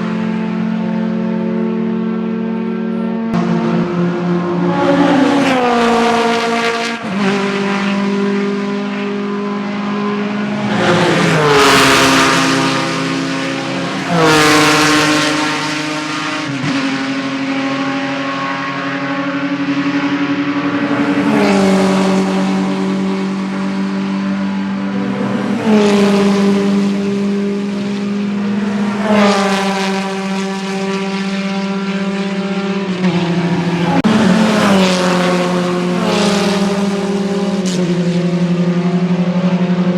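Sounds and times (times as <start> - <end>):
racing cars passing at speed: 0.0 - 39.9.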